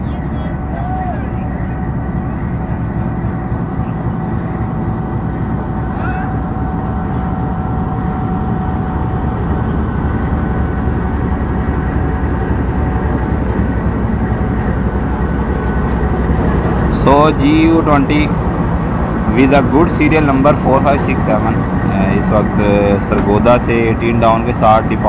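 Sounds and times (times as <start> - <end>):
diesel locomotive engine rumble: 0.0 - 25.0
faint whine: 0.0 - 25.0.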